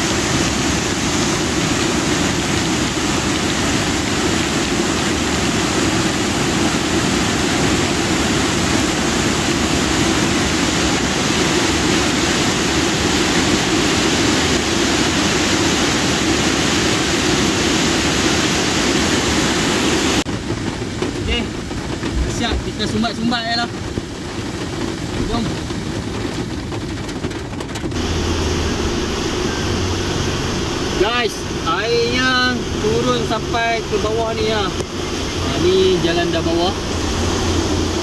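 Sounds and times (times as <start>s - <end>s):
flooded river rushing: 0.0s - 27.0s, 27.8s - 38.0s.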